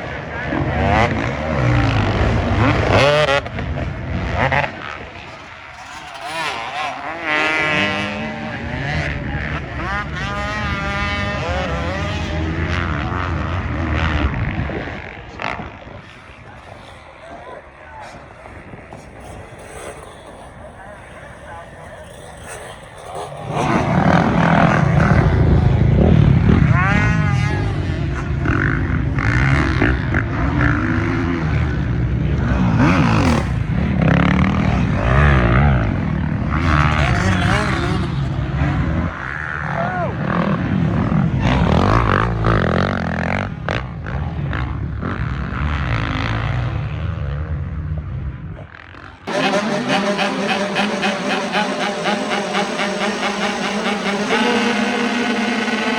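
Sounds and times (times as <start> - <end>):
racing engines revving: 0.0 - 55.9.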